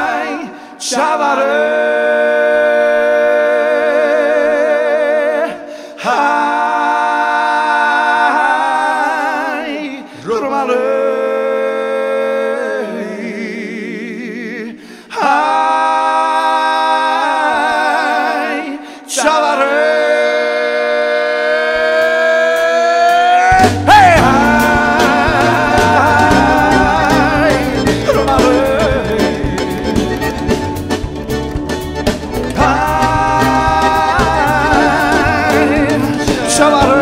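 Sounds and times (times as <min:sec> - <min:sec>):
men singing unaccompanied: 0:00.0 - 0:30.5, 0:32.5 - 0:37.0.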